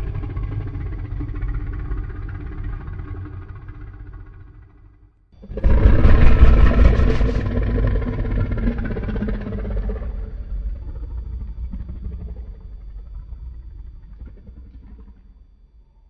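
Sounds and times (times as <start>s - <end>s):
deep rough creature call: 0.0s - 13.4s.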